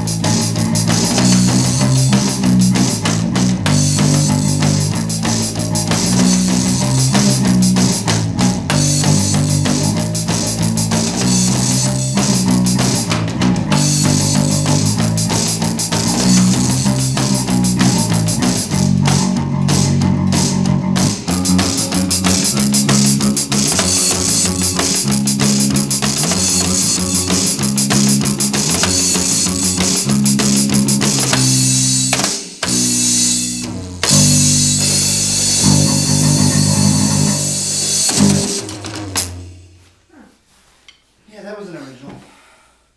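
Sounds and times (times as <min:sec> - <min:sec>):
electric guitar: 0:00.0 - 0:39.8
bass line: 0:00.0 - 0:39.9
drum kit with cymbals: 0:00.0 - 0:41.1.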